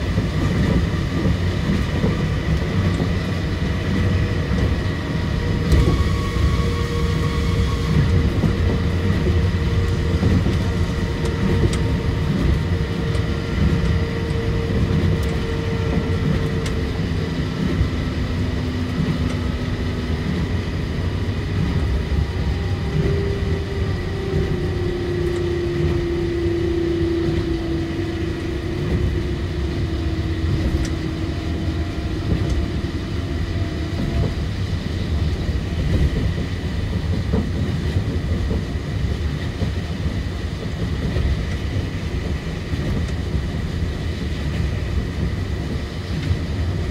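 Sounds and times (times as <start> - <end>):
monorail train rumbling: 0.0 - 46.9.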